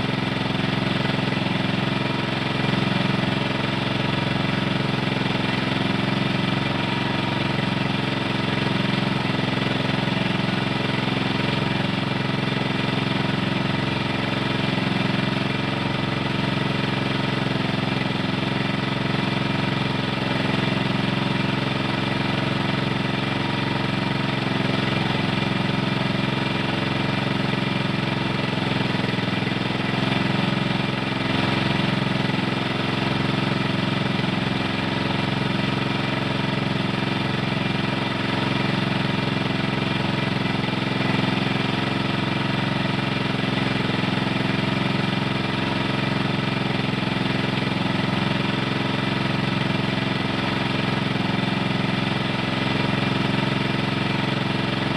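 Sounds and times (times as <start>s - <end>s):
small engine droning steadily: 0.0s - 54.9s.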